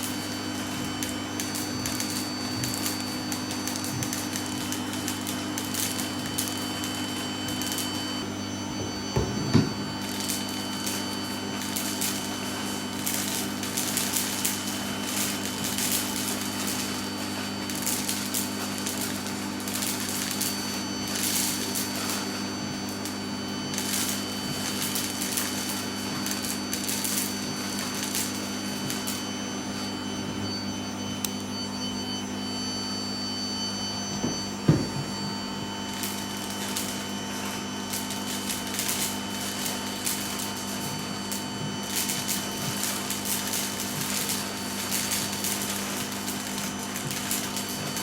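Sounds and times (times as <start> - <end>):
vacuum cleaner humming: 0.0 - 48.0.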